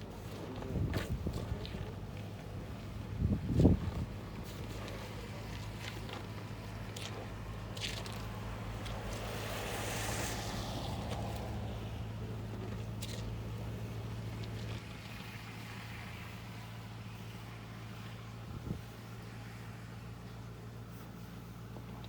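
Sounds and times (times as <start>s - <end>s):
low mechanical hum: 0.0s - 22.0s
traffic noise: 0.0s - 22.0s.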